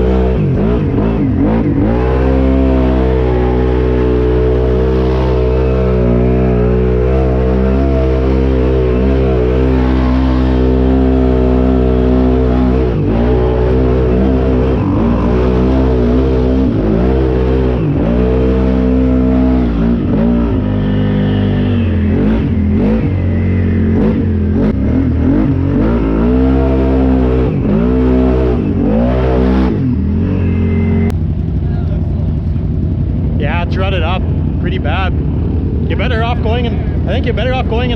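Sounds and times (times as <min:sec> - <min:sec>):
quad bike engine revving: 0:00.0 - 0:37.9.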